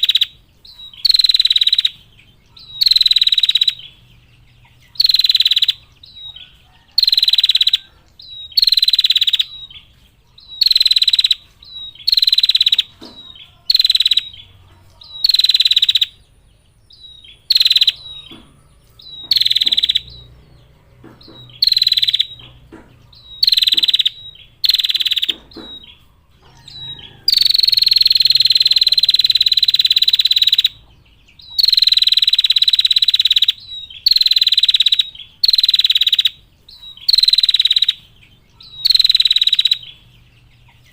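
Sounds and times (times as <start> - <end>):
bird rattling trill call: 0.0 - 4.0, 4.9 - 16.2, 17.0 - 30.8, 31.4 - 40.0.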